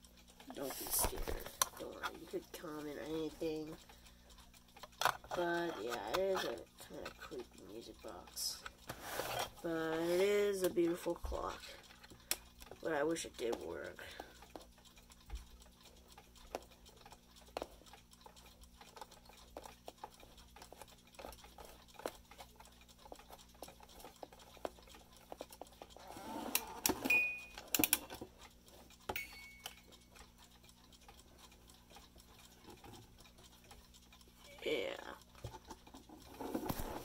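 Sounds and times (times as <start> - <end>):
clock ticks and clicks: 0.0 - 37.0.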